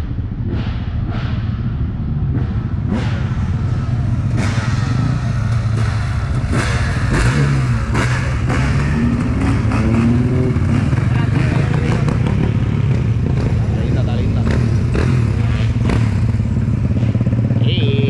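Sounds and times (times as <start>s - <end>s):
motorcycle engine running and revving: 0.0s - 18.0s.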